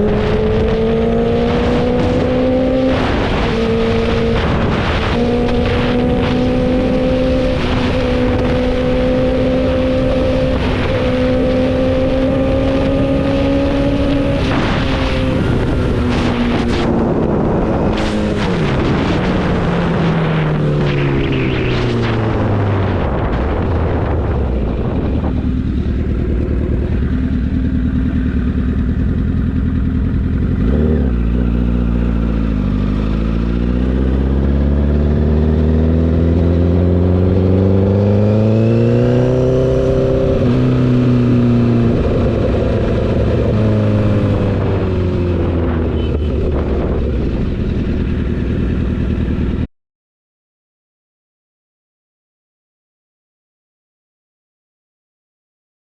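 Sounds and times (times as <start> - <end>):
road and wind noise: 0.0 - 49.7
vehicle engine: 0.0 - 49.7.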